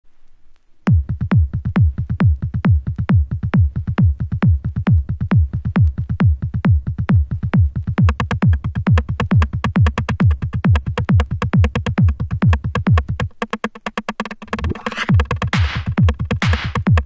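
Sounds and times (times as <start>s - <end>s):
hi-hat ticks: 0.5s - 17.0s
electronic kick drum beat: 0.9s - 17.0s.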